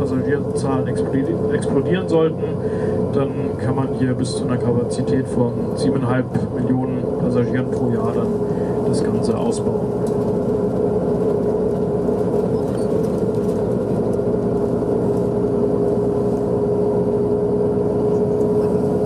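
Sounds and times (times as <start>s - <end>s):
bus engine rumble from inside: 0.0s - 19.0s
constant whine: 0.0s - 19.0s.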